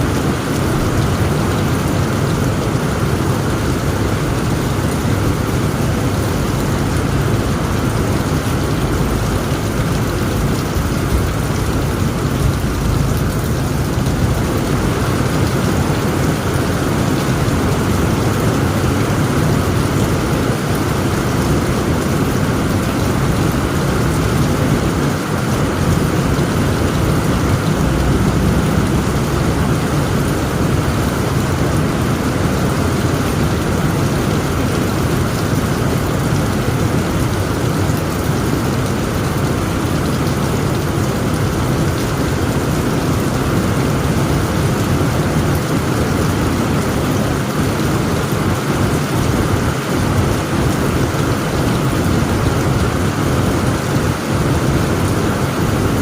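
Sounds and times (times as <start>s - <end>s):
heavy rain on tent roof: 0.0s - 56.0s.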